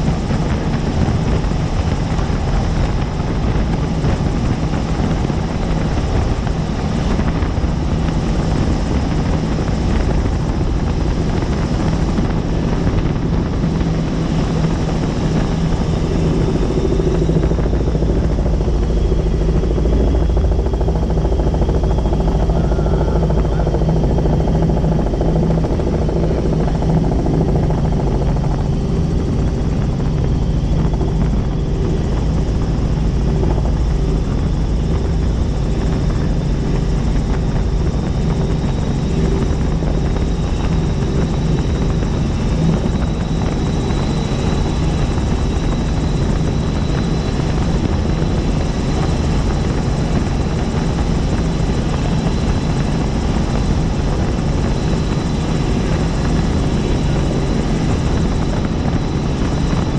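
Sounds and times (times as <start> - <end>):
constant low hum: 0.0 - 59.9
helicopter rotor and engine: 0.0 - 59.9.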